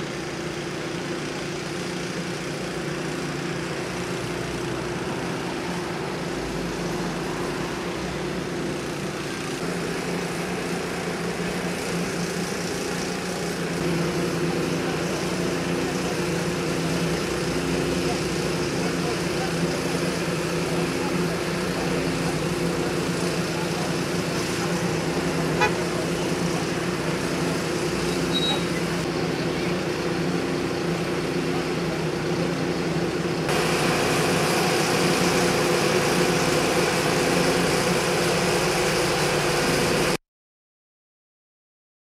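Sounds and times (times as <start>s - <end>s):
fire engine idling: 0.0s - 40.2s.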